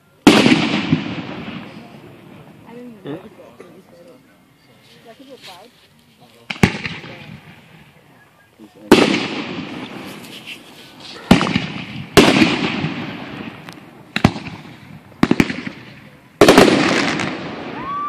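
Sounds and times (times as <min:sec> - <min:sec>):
fireworks bursting with echo: 0:00.0 - 0:03.0, 0:06.4 - 0:18.0.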